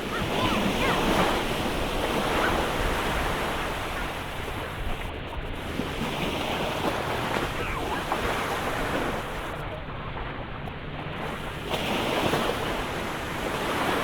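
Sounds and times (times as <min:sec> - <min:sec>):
sea surf washing on beach: 0:00.0 - 0:14.0.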